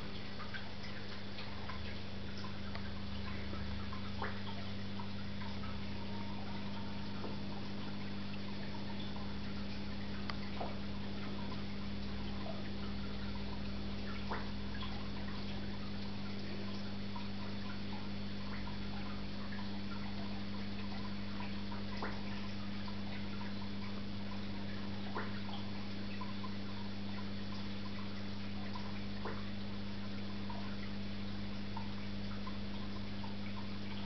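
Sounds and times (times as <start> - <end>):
aquarium pump humming: 0.0 - 34.0
water trickling and dripping: 0.0 - 34.0.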